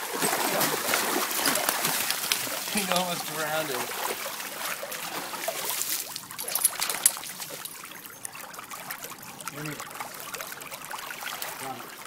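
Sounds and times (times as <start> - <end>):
pool water splashing: 0.0 - 12.0.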